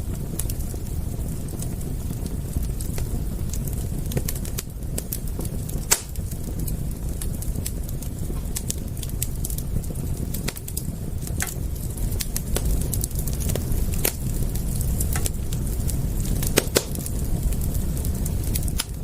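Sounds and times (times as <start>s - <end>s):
low rumble: 0.0s - 19.0s
wood fire crackling: 0.0s - 19.0s.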